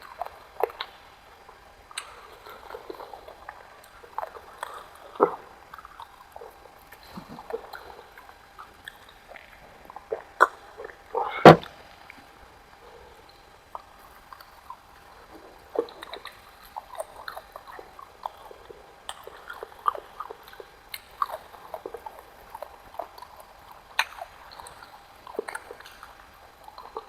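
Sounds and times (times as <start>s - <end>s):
chewing with wet mouth clicks: 1.9s - 11.0s, 13.3s - 26.2s.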